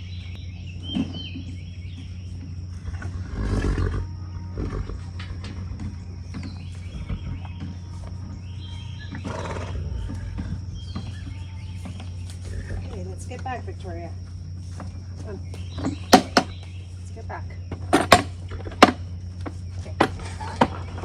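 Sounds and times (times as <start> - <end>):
birds chirping: 0.0 - 21.0
horses nickering: 0.0 - 21.0.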